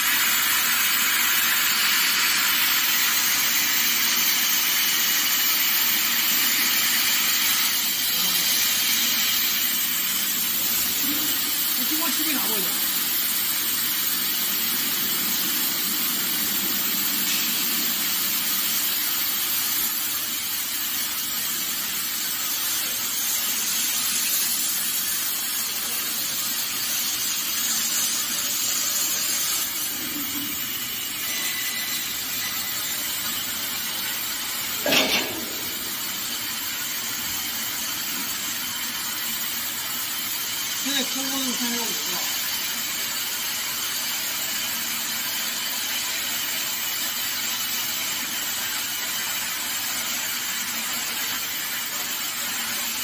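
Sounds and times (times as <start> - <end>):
laser cutter gas jet hissing: 0.0 - 53.0.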